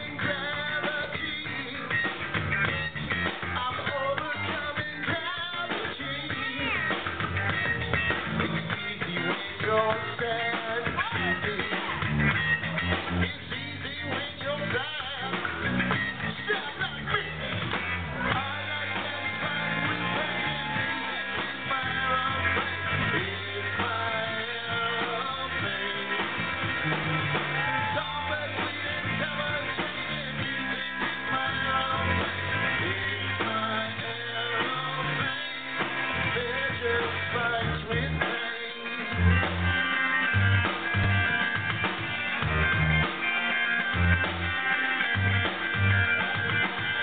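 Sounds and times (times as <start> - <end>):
bass guitar: 0.0 - 47.0
drum kit: 0.0 - 47.0
electric guitar: 0.0 - 47.0.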